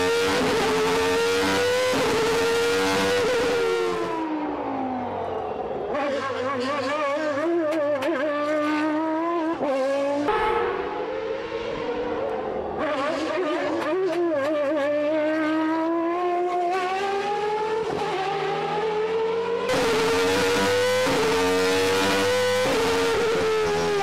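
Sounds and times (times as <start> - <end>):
racing engine at high revs: 0.0 - 24.0.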